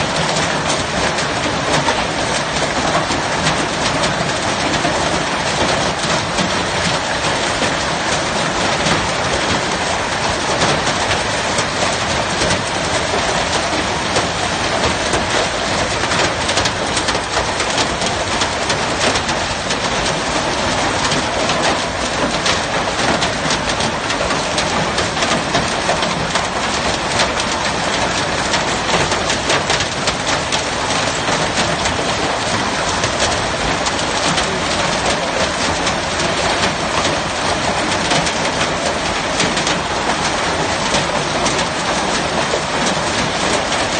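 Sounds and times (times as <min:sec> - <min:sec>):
heavy hail clattering: 0:00.0 - 0:43.9.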